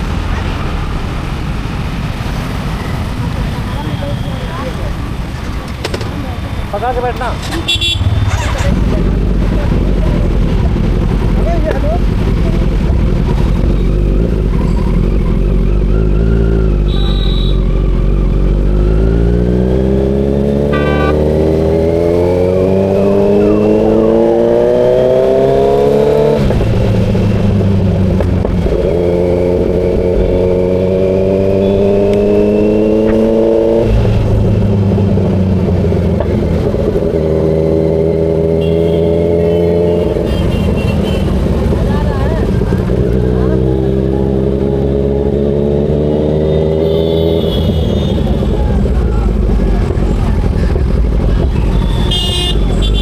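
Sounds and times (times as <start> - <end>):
motorcycle engine accelerating: 7.3 - 53.0.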